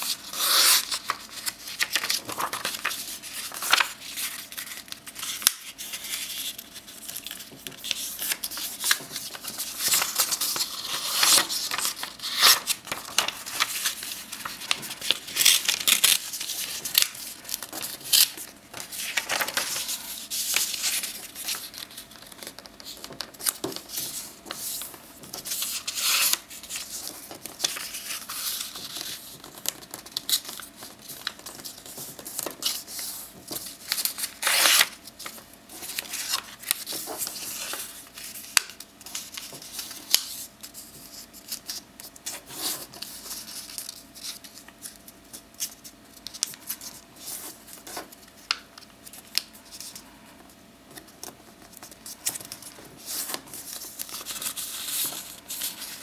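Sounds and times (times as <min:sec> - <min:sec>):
paper being folded: 0:00.0 - 0:50.1, 0:50.9 - 0:56.0.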